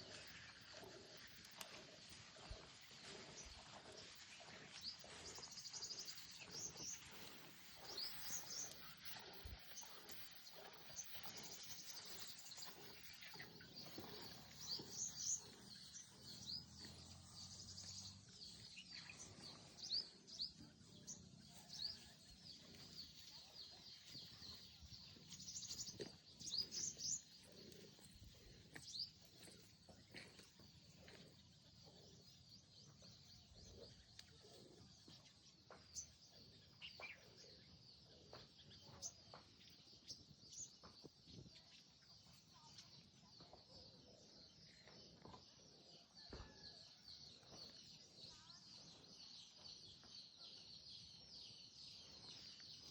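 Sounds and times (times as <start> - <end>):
faint rural background: 0.0 - 52.9
small birds chirping: 0.0 - 52.9.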